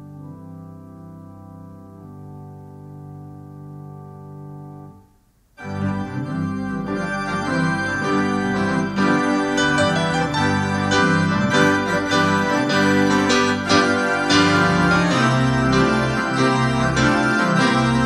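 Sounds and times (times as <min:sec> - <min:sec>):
keyboard music with organ: 0:00.0 - 0:18.0
organ chord: 0:00.0 - 0:18.0.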